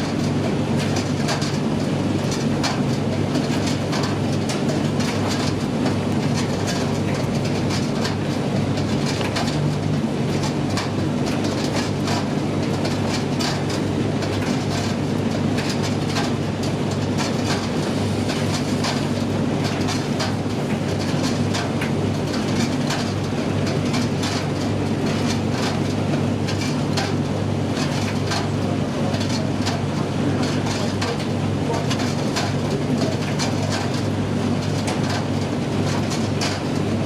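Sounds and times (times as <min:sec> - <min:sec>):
tumble dryer motor hum: 0:00.0 - 0:37.0.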